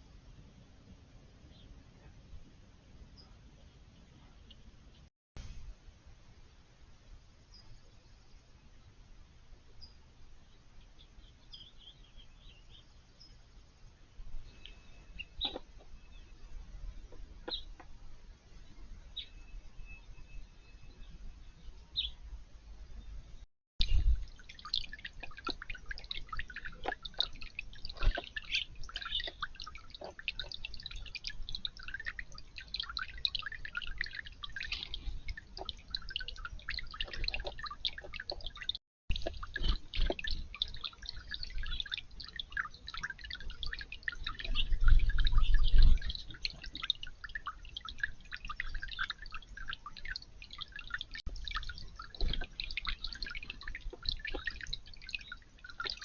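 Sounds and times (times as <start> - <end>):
water trickling and dripping: 6.4 - 22.2, 23.0 - 56.0.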